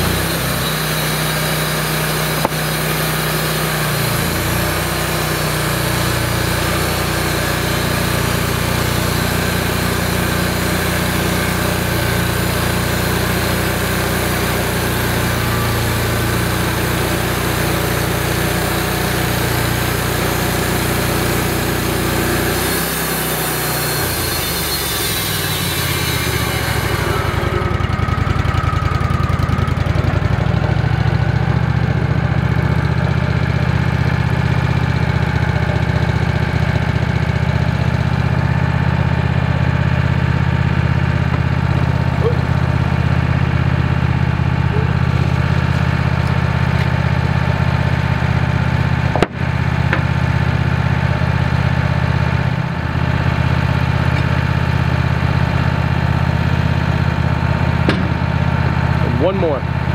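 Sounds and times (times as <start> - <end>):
sawmill engine idling: 0.0 - 59.9.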